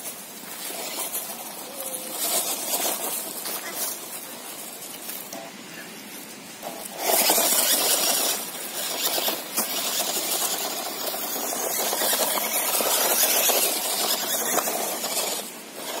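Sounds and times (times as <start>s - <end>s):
toy truck electric motor whirring: 0.0s - 5.4s, 6.6s - 16.0s
tyres crackling through leaves: 0.0s - 16.0s.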